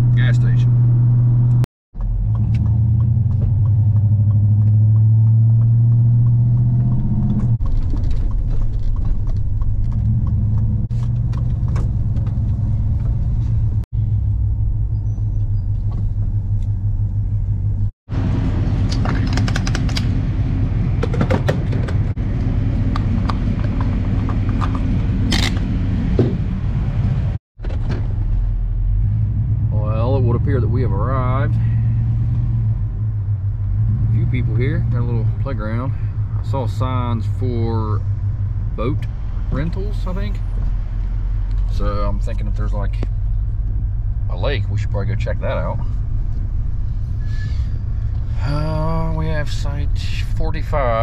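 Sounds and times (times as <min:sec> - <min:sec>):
car engine drone inside cabin: 0:00.0 - 0:51.0
road noise: 0:00.0 - 0:51.0.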